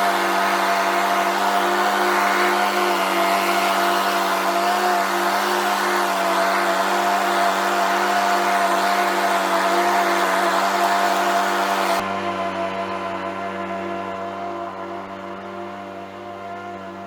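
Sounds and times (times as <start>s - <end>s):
lawn tractor engine running: 0.0s - 17.0s.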